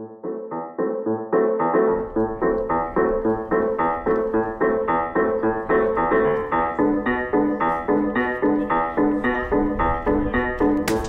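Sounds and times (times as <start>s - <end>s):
keyboard repeating notes: 0.0s - 11.0s.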